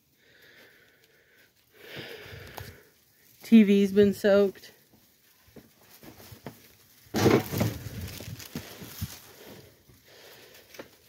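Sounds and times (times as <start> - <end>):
debris rustling and crunching: 0.0 - 11.0.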